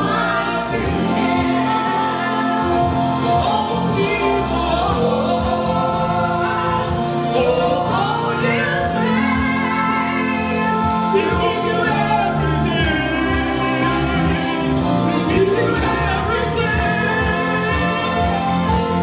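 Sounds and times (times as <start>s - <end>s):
choir singing: 0.0s - 19.0s
instrumental chords and bass: 0.0s - 19.0s.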